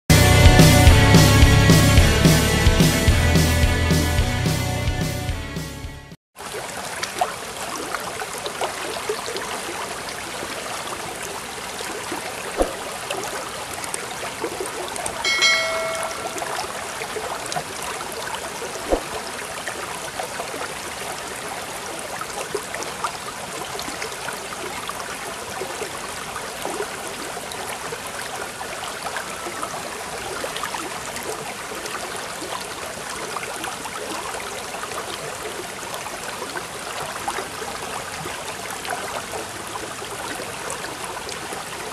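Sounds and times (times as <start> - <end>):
stream trickling: 6.4 - 41.9.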